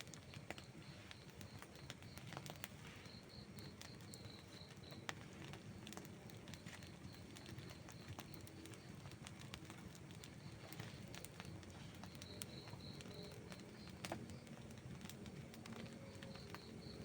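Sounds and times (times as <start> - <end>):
burning wood crackling and popping: 0.0 - 17.0
low rumble of fire: 0.0 - 17.0.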